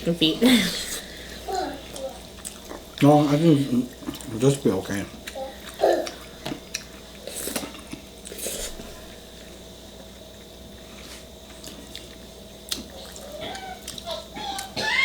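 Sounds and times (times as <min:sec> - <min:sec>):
soft wet chewing: 0:00.9 - 0:15.0.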